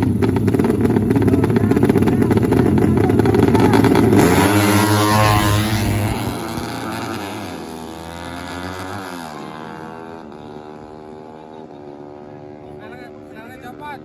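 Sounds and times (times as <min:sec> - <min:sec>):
motorcycle engines at full throttle: 0:00.0 - 0:14.0.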